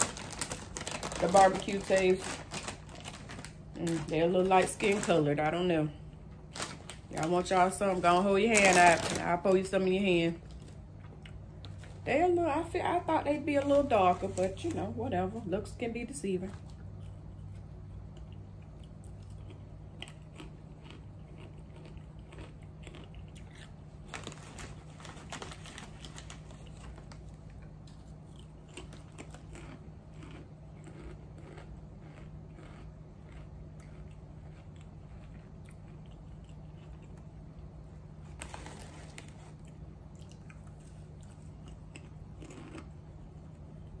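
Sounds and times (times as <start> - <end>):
person chewing crunchy chips: 0.0 - 9.4, 16.6 - 44.0
steady low hum: 0.0 - 44.0.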